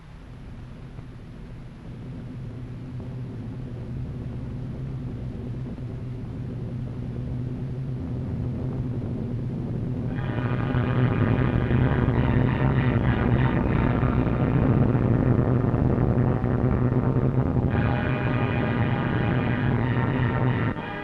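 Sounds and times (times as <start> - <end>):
massed aircraft engines droning: 1.3 - 21.0
music: 1.8 - 21.0.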